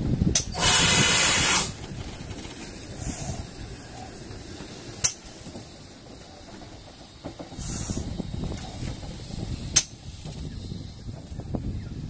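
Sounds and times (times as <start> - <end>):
steam locomotive rumble: 0.0 - 12.0
steam hissing: 0.4 - 11.8.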